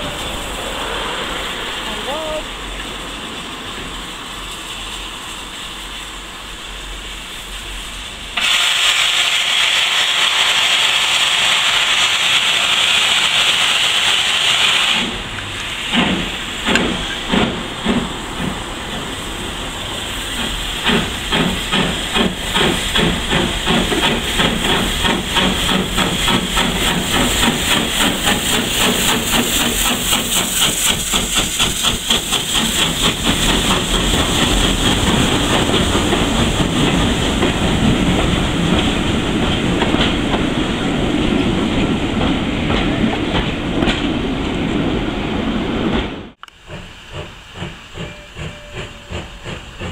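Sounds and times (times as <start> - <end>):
loud hiss of steam: 0.0 - 45.7, 46.4 - 49.9
steam locomotive exhaust beating: 0.0 - 49.9.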